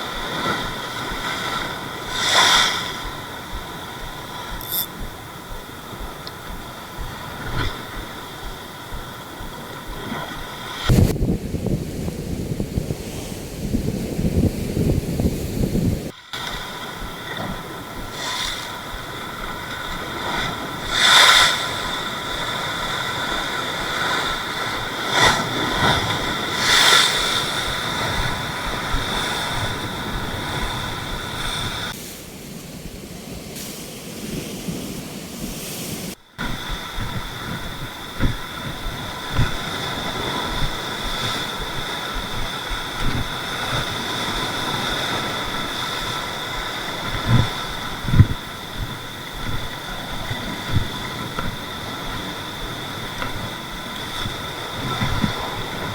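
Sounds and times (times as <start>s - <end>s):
steady high whine: 0.0s - 11.2s, 16.0s - 32.0s, 36.1s - 55.8s
surf washing against rocks: 0.0s - 55.9s
wind buffeting microphone: 0.0s - 55.9s.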